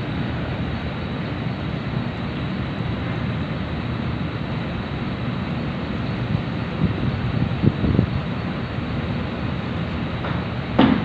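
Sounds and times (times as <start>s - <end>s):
ferry engines idling: 0.0s - 11.0s.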